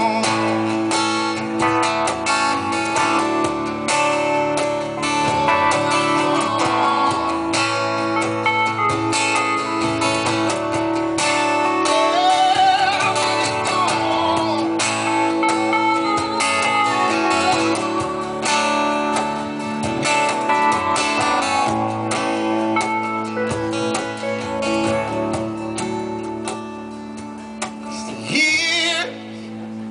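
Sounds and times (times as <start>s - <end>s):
strummed guitars: 0.0s - 29.9s.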